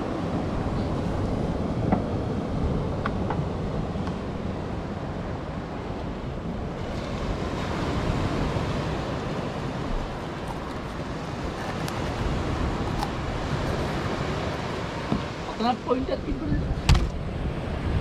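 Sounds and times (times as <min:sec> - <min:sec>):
surf breaking on a beach: 0:00.0 - 0:18.0
wind: 0:00.0 - 0:18.0.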